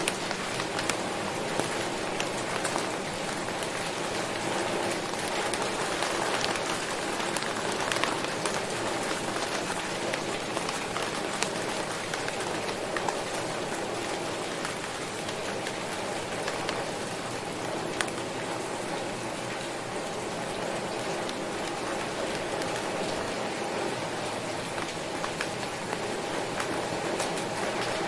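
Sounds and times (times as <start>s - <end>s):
raindrops ticking: 0.0s - 28.0s
steady rain hiss: 0.0s - 28.0s.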